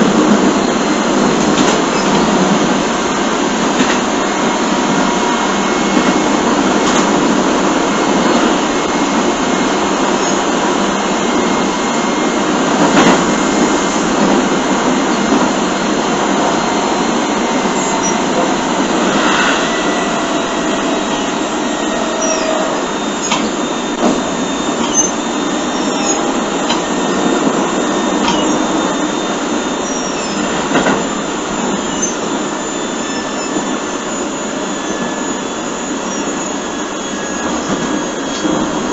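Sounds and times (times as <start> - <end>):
train clacks: 0.0 - 38.9
train wheels and motors rumbling: 0.0 - 38.9.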